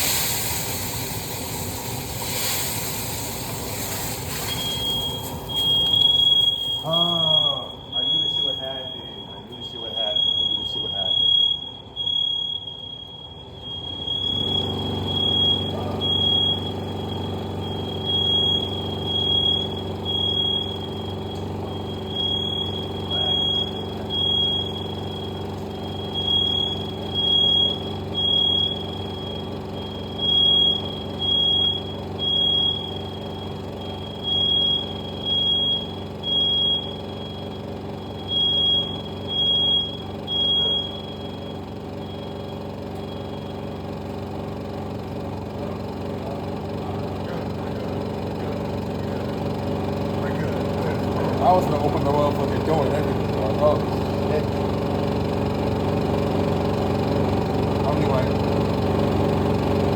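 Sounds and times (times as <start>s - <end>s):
low machine hum: 0.0s - 59.9s
smoke alarm beeping: 0.0s - 59.9s.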